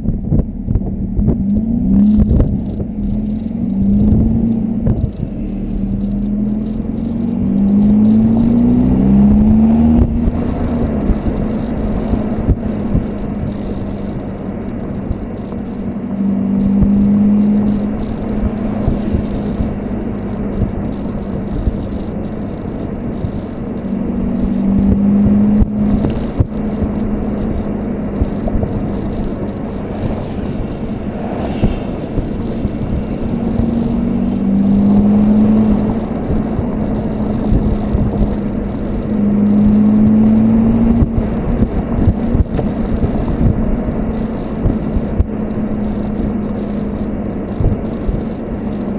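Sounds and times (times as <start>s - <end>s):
diesel exhaust droning: 0.0s - 48.9s
rushing noise: 0.0s - 48.9s.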